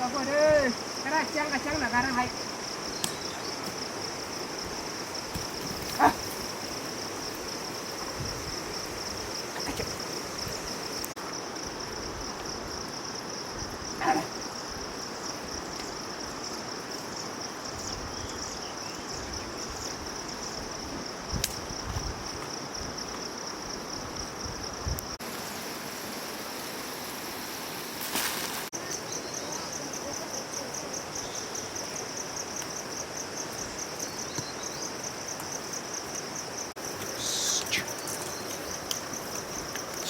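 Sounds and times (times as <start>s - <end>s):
background hiss: 0.0s - 40.0s
insect trill: 0.0s - 40.0s.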